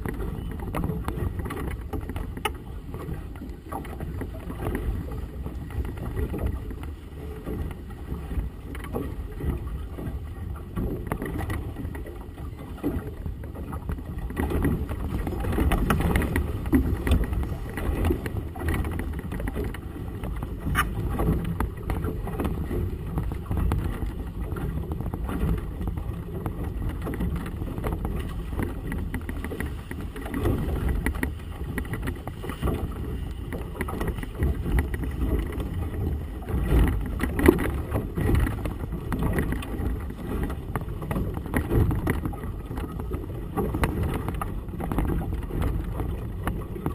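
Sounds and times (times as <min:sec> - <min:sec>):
water splashing against hull: 0:00.0 - 0:46.9
wind rumbling on microphone: 0:00.0 - 0:46.9.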